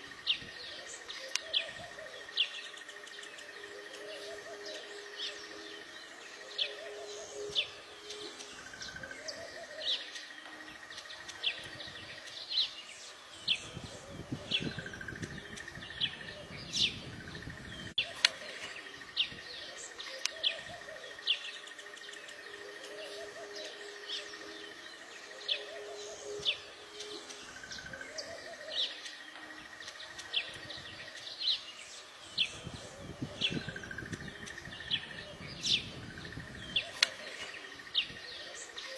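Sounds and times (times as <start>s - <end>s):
birds chirping: 0.0s - 38.9s
steady high buzz: 0.0s - 38.9s.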